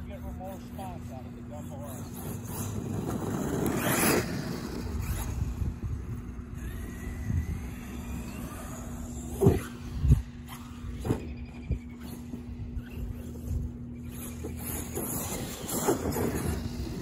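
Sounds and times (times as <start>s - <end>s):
rc truck rushing past: 0.0s - 17.0s
rising motor whine: 0.0s - 17.0s.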